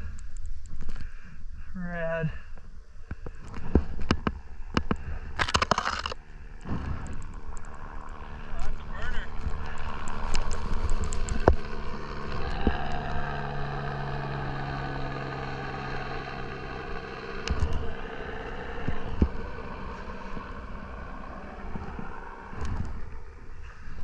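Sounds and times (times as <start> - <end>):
engine running: 3.4 - 24.0.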